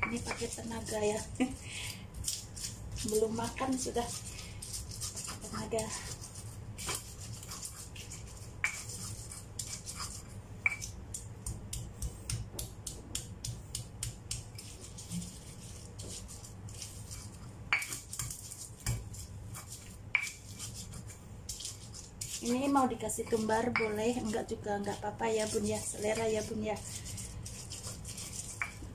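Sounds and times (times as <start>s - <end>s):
stone pestle grinding in a mortar: 0.0s - 28.9s.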